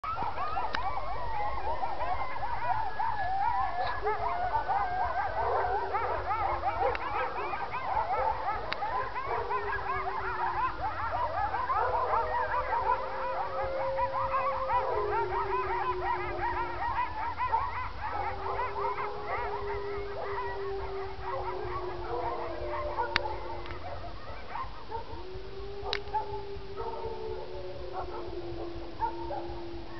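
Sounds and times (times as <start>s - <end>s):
coyotes yipping: 0.0s - 29.9s
low coyote howls: 0.0s - 29.9s.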